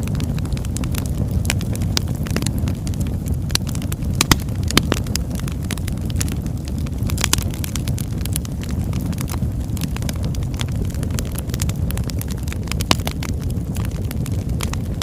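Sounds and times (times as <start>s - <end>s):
fire crackles and pops: 0.0s - 15.0s
low rumble of flame: 0.0s - 15.0s.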